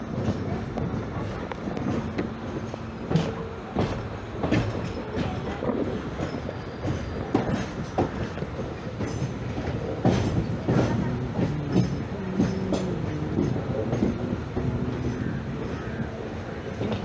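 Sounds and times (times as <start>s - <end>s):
train coach rumbling on rails: 0.0s - 17.0s.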